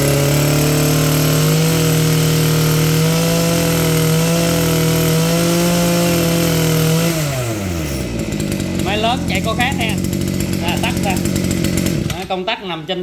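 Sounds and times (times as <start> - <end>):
brush cutter engine revving: 0.0 - 13.0.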